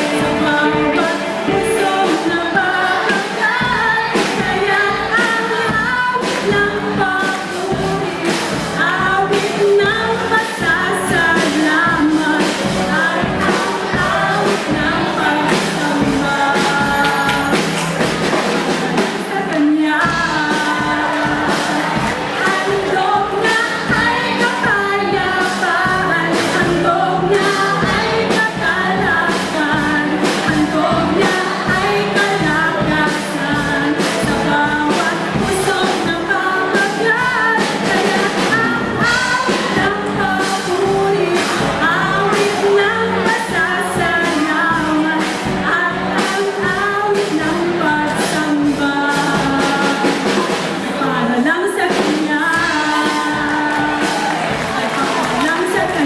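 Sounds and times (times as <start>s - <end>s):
drum kit beat: 0.0s - 56.0s
live band playing pop-rock: 0.0s - 56.0s
person singing: 0.0s - 56.0s.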